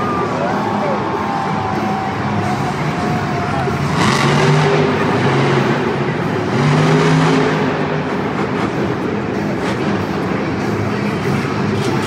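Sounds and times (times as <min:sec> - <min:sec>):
monster truck engines revving: 0:00.0 - 0:12.0.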